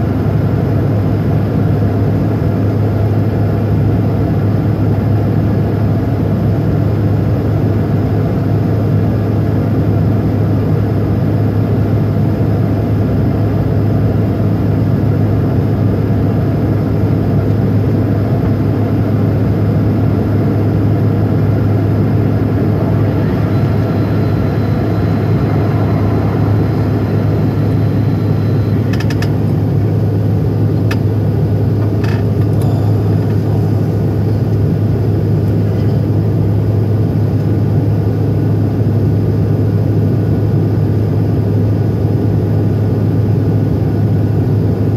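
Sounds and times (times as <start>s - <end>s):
airliner cabin jet engine hum: 0.0s - 44.9s.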